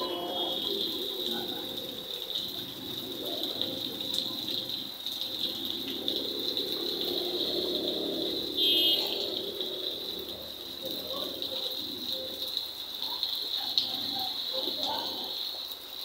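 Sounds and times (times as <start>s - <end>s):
rain on paved street: 0.0s - 16.0s
rain pattering on awning: 0.0s - 16.0s.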